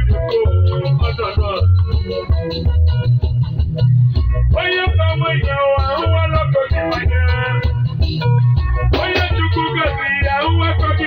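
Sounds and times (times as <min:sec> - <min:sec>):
bass line: 0:00.0 - 0:11.0
guitar: 0:00.0 - 0:11.0
keyboard: 0:00.0 - 0:11.0
lead melody: 0:00.0 - 0:11.0.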